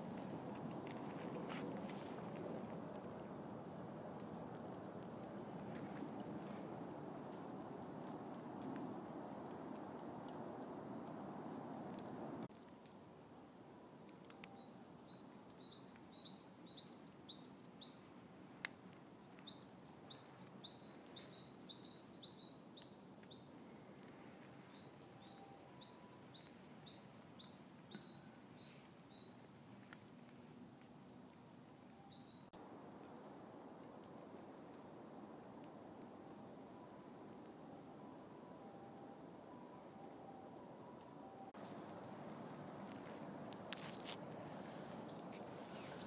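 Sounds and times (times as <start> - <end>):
faint background hiss: 0.0 - 46.0
songbird singing faintly: 0.0 - 46.0.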